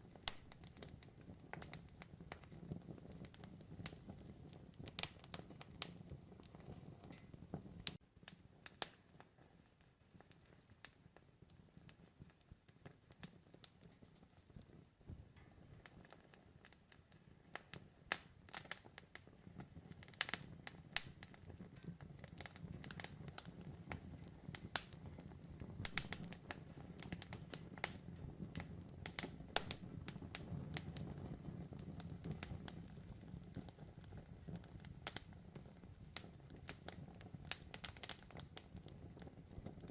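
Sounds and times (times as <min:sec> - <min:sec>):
campfire crackling and popping: 0:00.0 - 0:39.9
low rush of burning wood: 0:00.0 - 0:39.9.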